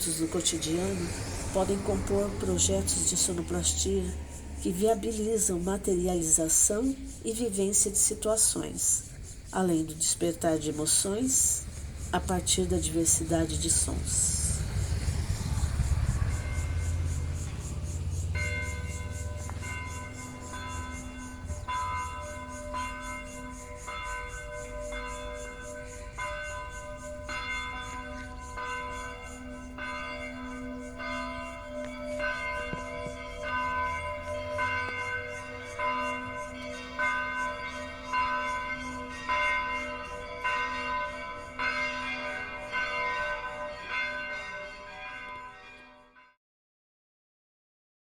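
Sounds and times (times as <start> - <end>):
church bells ringing: 0.0 - 46.4.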